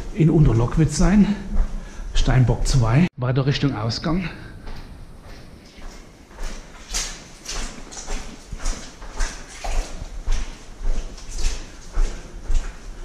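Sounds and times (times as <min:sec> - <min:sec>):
footsteps walking: 0:00.0 - 0:03.1, 0:04.1 - 0:13.0.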